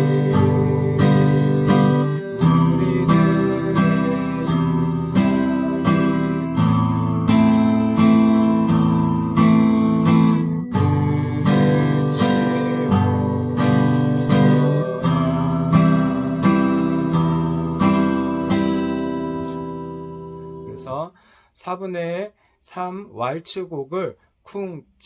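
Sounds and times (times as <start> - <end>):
acoustic guitar strummed waltz: 0.0 - 21.0.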